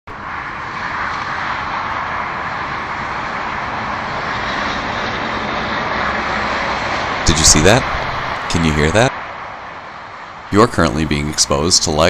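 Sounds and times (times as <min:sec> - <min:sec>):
heavy road traffic: 0:00.1 - 0:12.0.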